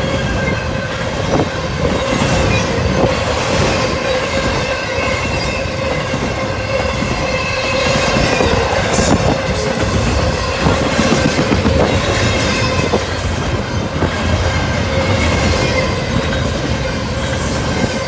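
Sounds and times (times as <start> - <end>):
steel wheels rumbling on rail: 0.0 - 18.0.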